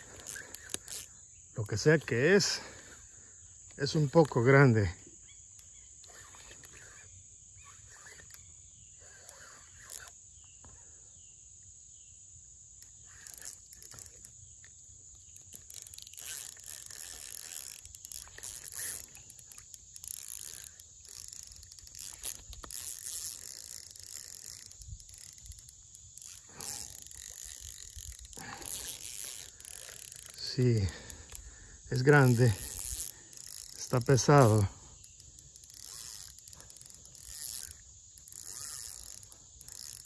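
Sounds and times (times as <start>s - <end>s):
faint chirps: 0.0s - 40.0s
high insect buzz: 0.0s - 40.0s.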